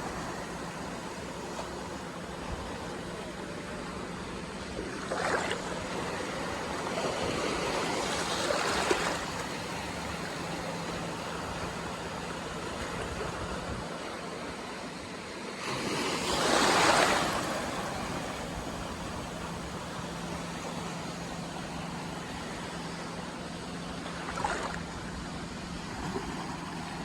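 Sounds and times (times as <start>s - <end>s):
sea waves washing onto shore: 0.0s - 27.0s.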